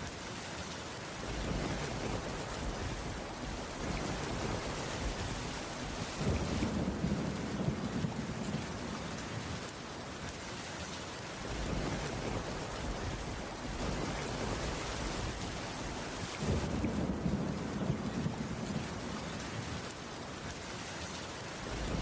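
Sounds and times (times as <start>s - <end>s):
rain on a wooden roof: 0.0s - 22.0s.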